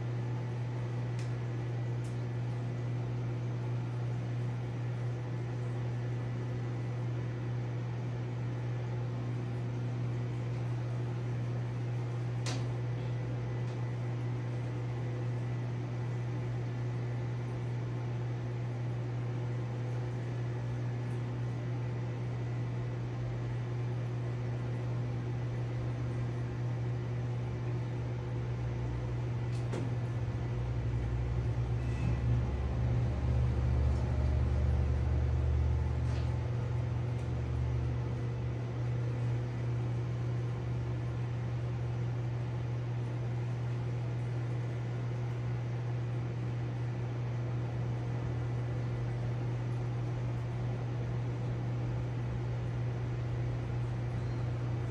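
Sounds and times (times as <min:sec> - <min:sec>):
aquarium pump humming: 0:00.0 - 0:54.9.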